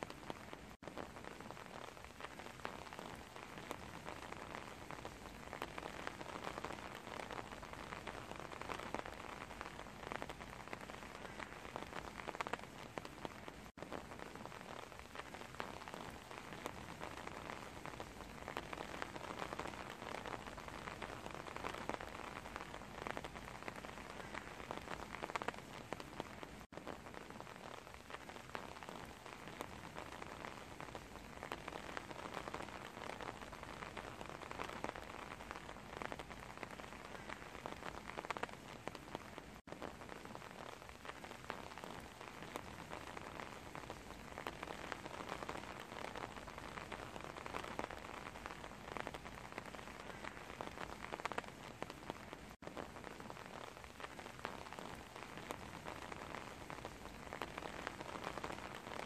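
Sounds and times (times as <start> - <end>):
rain splashing into standing water: 0.0 - 59.0.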